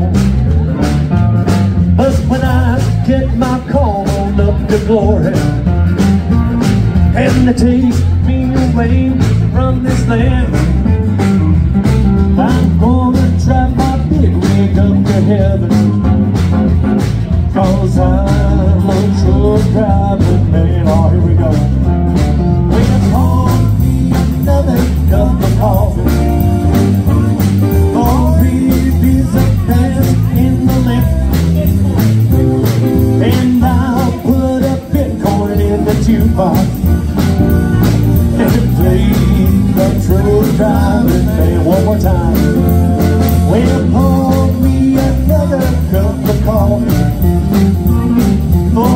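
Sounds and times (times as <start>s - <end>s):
acoustic guitar: 0.0s - 48.9s
electric guitar: 0.0s - 48.9s
steady drum beat: 0.0s - 48.9s.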